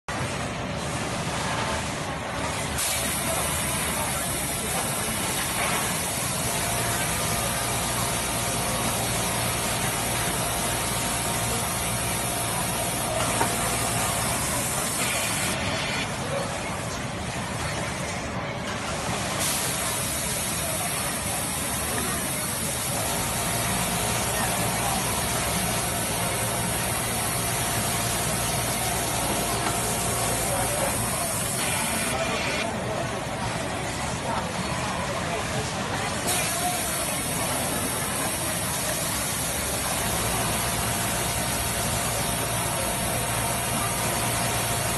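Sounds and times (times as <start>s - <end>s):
sewing machine mechanical hum: 0.1s - 44.9s.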